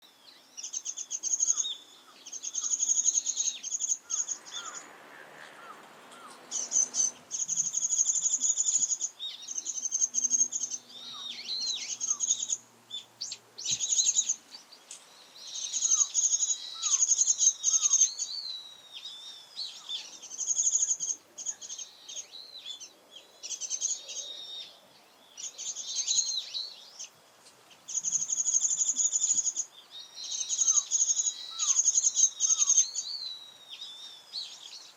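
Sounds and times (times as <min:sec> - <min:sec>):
bird twittering: 0:00.6 - 0:04.9, 0:05.5 - 0:27.2, 0:27.8 - 0:34.9.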